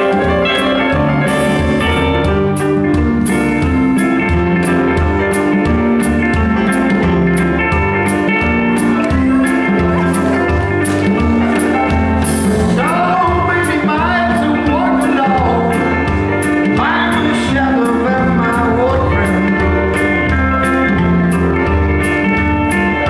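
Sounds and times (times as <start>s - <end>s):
bending sliding guitar notes: 0.0s - 23.0s
blues band playing: 0.0s - 23.0s.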